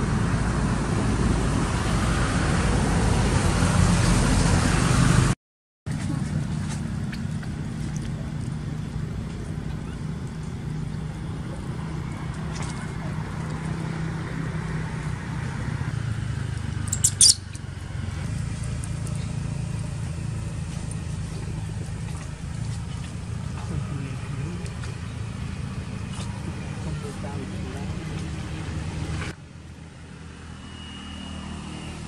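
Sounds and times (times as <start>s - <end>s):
low mechanical hum: 5.9s - 32.0s.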